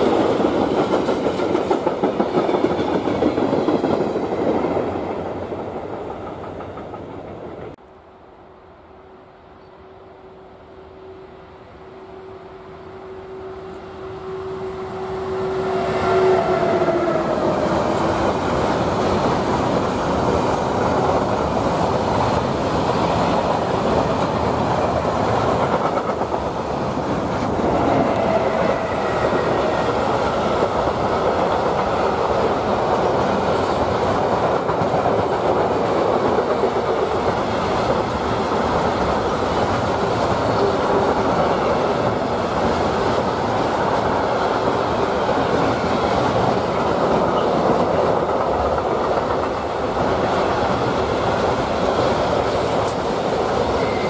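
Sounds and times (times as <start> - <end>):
train wheels clattering on rails: 0.0 - 7.8, 16.5 - 54.0
electric locomotive whine: 0.0 - 54.0.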